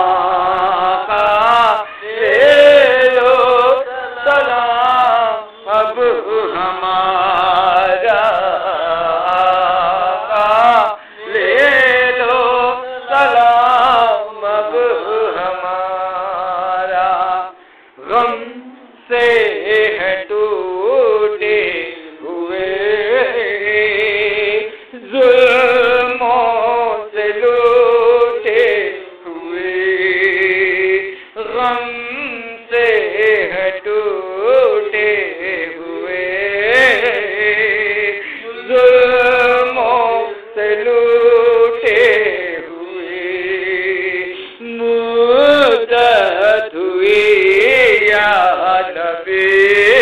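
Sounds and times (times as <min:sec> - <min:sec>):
man chanting: 0:00.0 - 0:50.0.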